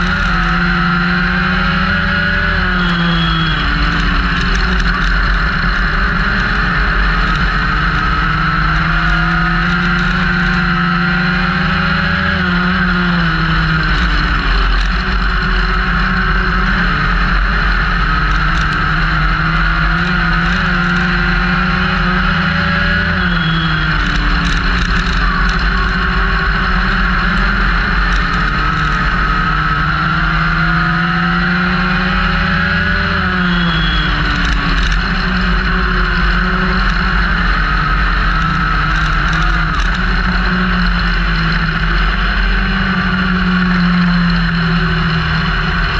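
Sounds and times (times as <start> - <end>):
race car engine revving: 0.0 - 45.9
road noise: 0.0 - 45.9.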